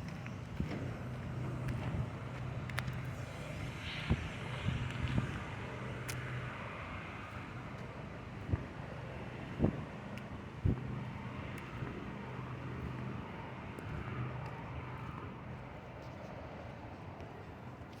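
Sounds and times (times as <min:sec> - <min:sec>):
steady engine hum: 0:00.0 - 0:18.0.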